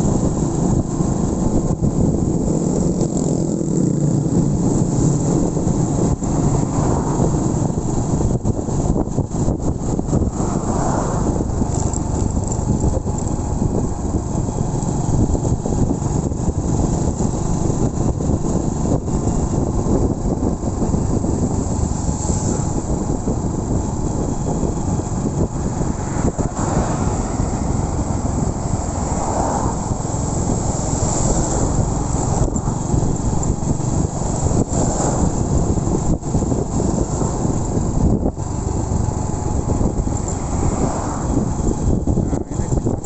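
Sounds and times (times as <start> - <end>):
motorcycle engine running: 0.0 - 43.0
road and wind noise: 0.0 - 43.0.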